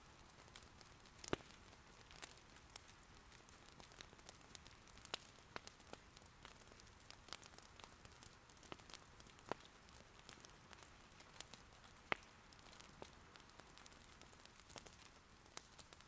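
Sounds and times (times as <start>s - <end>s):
faint steady rain patter: 0.0s - 16.0s
firewood crackling and popping: 0.0s - 16.0s.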